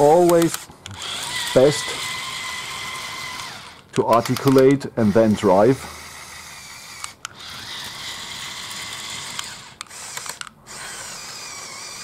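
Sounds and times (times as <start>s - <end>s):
toy electric motors whining: 0.0s - 12.0s.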